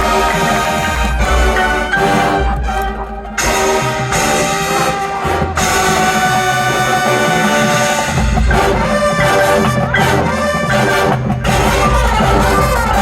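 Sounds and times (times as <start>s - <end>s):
brass chords: 0.0s - 13.0s
percussion hits: 0.0s - 13.0s.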